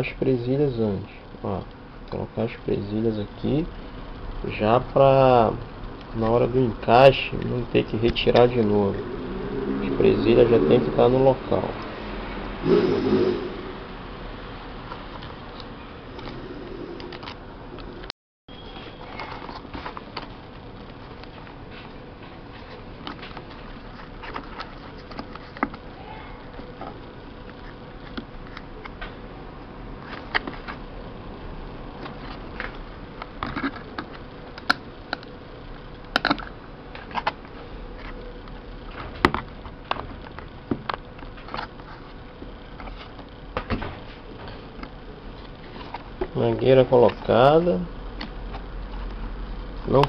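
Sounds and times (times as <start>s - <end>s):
faint background hum: 0.0s - 50.0s.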